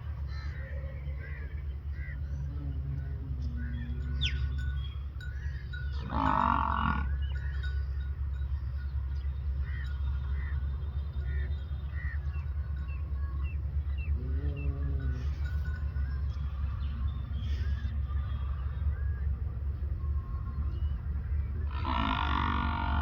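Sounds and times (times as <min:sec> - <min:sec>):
faint low moan: 0:00.0 - 0:08.9, 0:09.5 - 0:23.0
buffalo bellowing: 0:00.0 - 0:20.4, 0:21.2 - 0:23.0
steady low rumble: 0:00.0 - 0:23.0.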